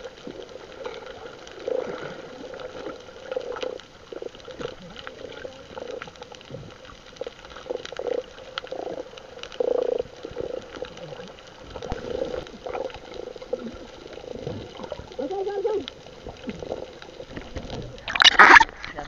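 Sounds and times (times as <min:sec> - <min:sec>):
water bubbling and sloshing: 0:00.0 - 0:19.0.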